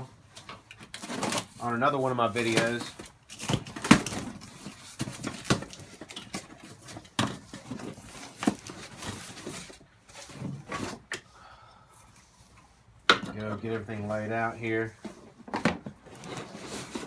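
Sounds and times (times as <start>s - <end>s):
cardboard rustling: 0.3s - 11.1s, 14.0s - 17.0s.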